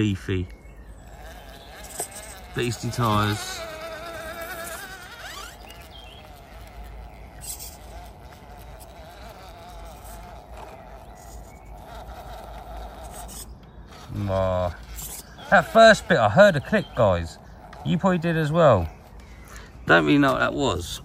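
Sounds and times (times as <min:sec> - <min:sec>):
electric motor whining: 0:00.9 - 0:19.1.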